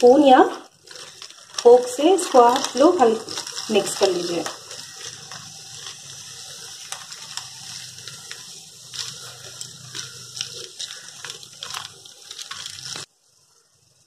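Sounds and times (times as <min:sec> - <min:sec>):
soda water fizzing: 0:00.0 - 0:14.0.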